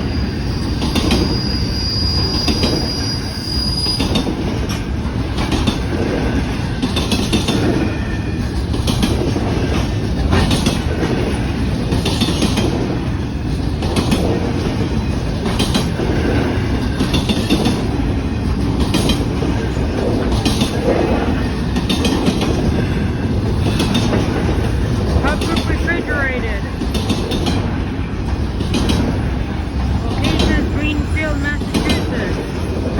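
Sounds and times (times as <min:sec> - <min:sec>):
train wheels rumbling on rails: 0:00.0 - 0:32.9
wheels clacking over rail joints: 0:04.0 - 0:32.9.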